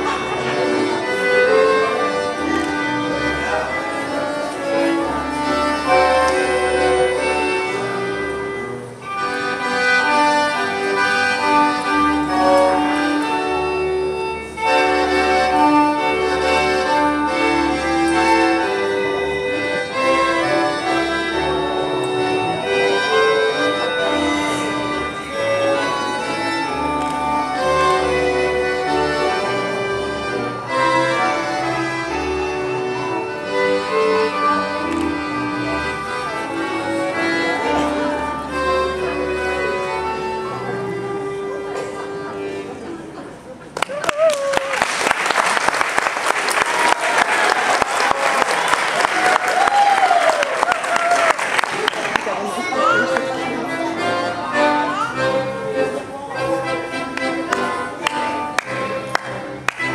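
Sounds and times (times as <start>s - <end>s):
folk dance music: 0.0s - 59.9s.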